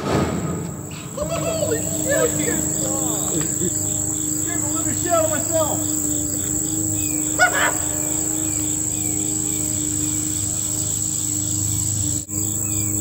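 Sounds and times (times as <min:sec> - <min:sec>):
crickets and insects chirring: 0:00.0 - 0:13.0.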